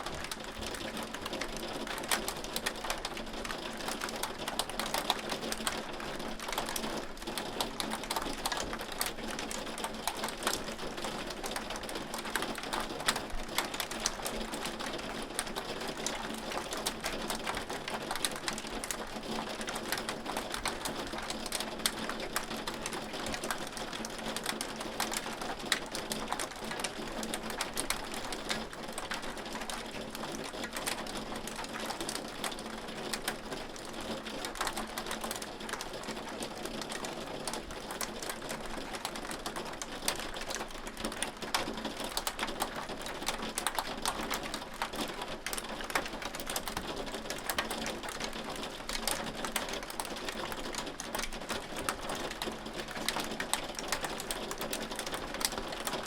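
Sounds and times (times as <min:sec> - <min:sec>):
hail pattering on hard surfaces: 0:00.0 - 0:56.0.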